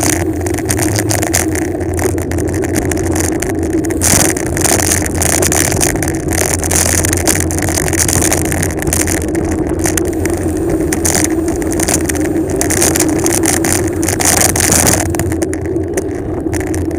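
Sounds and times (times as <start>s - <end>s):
bicycle tyre noise on road: 0.0s - 16.9s
wind buffeting microphone: 0.0s - 16.9s.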